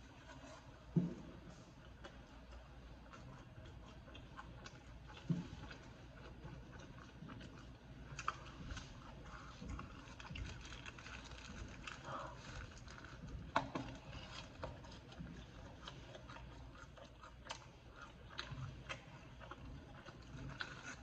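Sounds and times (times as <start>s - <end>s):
person chewing sandwich: 0.0s - 21.0s.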